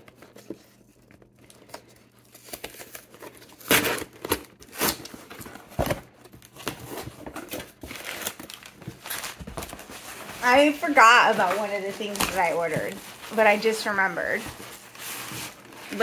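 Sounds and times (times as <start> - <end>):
cardboard rustling: 0.0 - 16.0
cardboard and tape ripping: 1.5 - 16.0.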